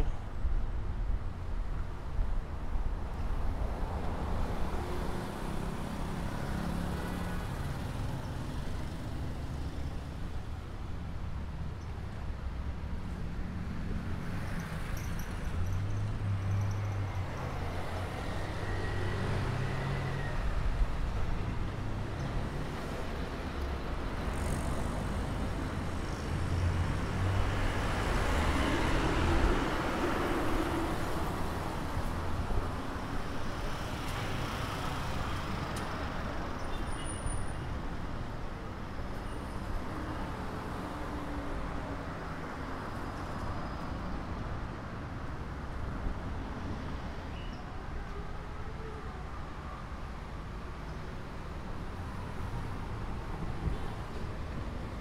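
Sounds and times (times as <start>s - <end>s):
tyres on road: 0.0s - 55.0s.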